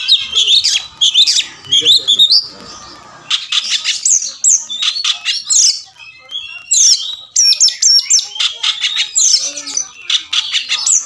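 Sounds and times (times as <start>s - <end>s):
magpie-robin singing: 0.0s - 11.0s.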